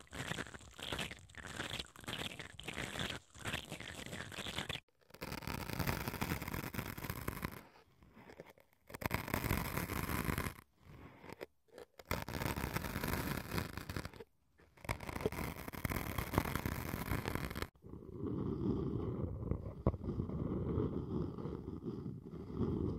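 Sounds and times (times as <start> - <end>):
stick scratching foam: 0.1 - 17.7, 18.8 - 22.9.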